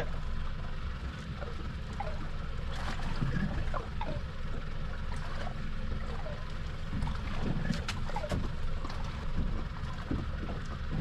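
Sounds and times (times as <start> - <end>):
water lapping at hull: 0.0 - 11.0.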